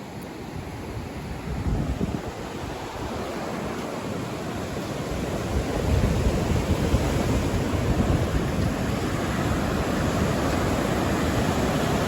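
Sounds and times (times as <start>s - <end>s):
ocean surf washing: 0.0s - 12.0s
wind buffeting microphone: 0.4s - 12.0s.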